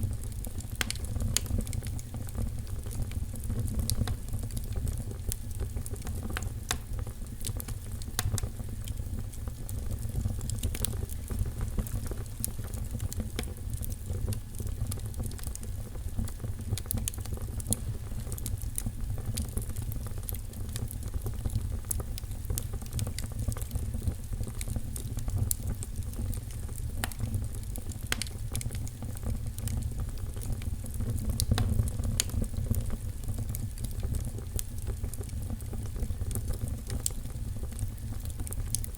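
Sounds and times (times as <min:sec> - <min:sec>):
fire crackling and popping: 0:00.0 - 0:38.9
low rumble of fire: 0:00.0 - 0:38.9.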